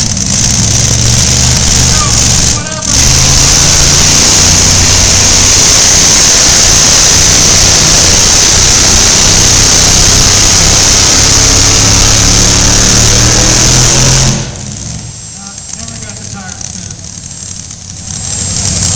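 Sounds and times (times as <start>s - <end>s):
loud truck engine running: 0.0s - 18.9s.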